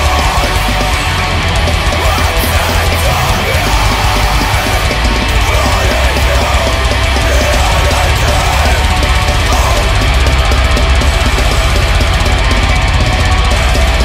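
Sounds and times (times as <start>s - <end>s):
distorted guitars: 0.0s - 14.0s
fast programmed drums: 0.0s - 14.0s.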